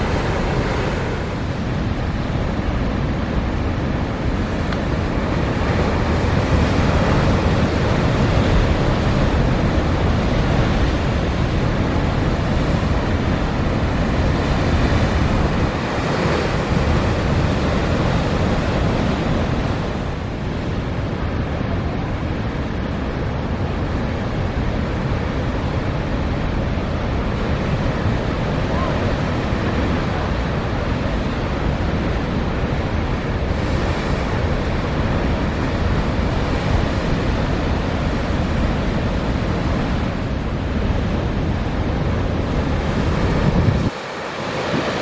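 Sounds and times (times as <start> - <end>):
storm surf breaking on rocks: 0.0 - 24.2, 24.9 - 45.0
wind buffeting microphone: 0.0 - 45.0.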